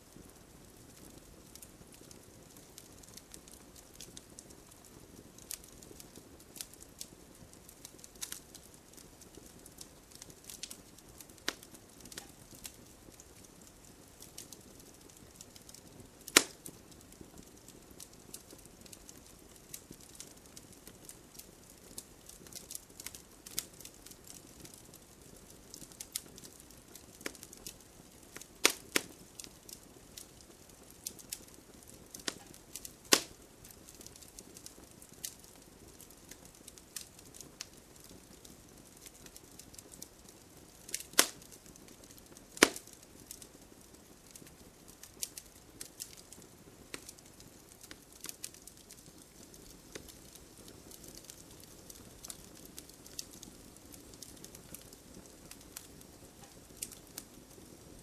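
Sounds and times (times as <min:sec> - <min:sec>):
low steady hiss: 0:00.0 - 0:58.0
wood fire crackling: 0:00.0 - 0:58.0.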